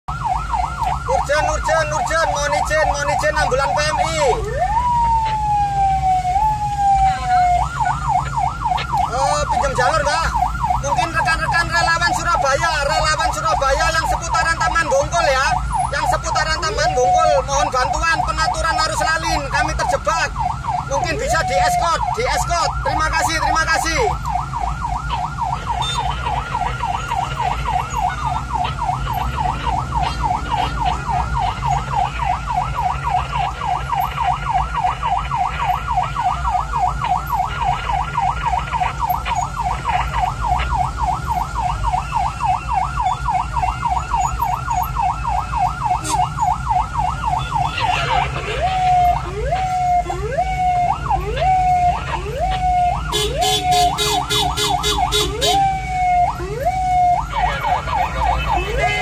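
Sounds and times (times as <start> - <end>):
ambulance siren: 0.0 - 59.0
engine and road rumble: 0.0 - 59.0.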